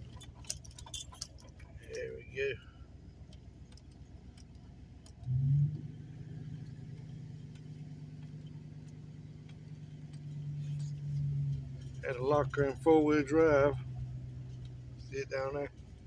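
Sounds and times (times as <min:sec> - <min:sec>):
truck engine starting and running: 0:00.0 - 0:16.0.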